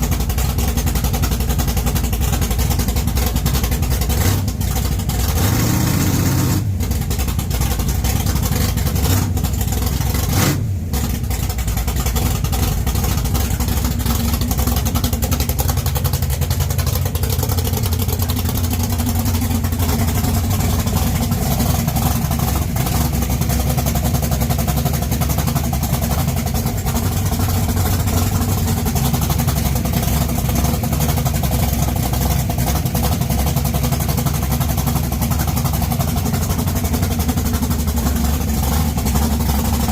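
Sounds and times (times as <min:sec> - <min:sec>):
loud car engine revving and idling: 0:00.0 - 0:39.9.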